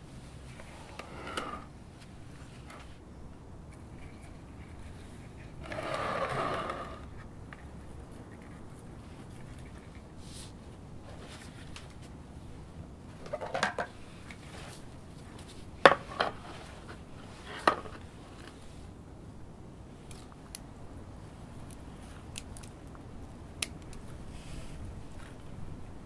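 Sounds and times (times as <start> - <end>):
hands rustling orchid roots: 0.0 - 19.0, 19.9 - 25.8.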